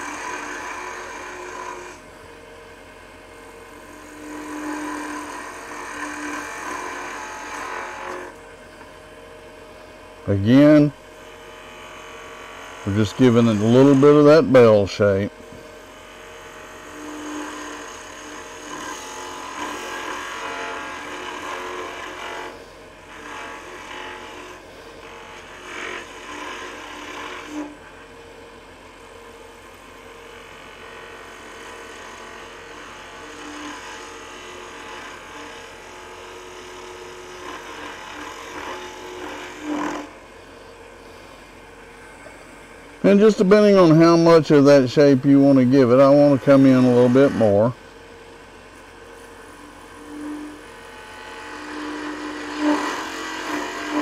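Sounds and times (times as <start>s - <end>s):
gouge cutting spinning wood: 0.0s - 9.3s, 10.2s - 54.0s
wood lathe motor hum: 0.0s - 54.0s.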